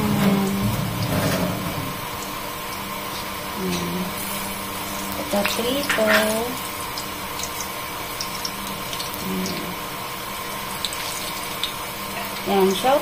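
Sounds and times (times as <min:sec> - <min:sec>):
banana sizzling in hot oil: 0:00.0 - 0:13.0.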